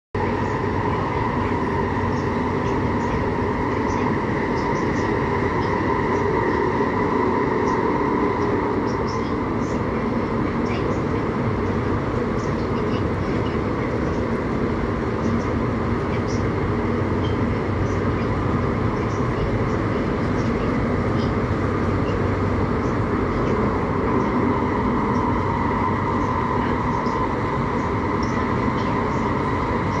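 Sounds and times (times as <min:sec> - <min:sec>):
electric train running noise: 0:00.2 - 0:30.0
train whine: 0:00.2 - 0:30.0.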